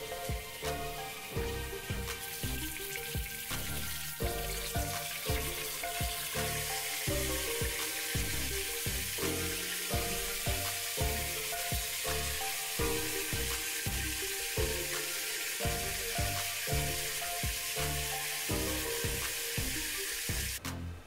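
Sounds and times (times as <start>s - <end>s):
fish sizzling in hot oil: 0.0s - 20.6s
background music with beat: 0.0s - 21.0s.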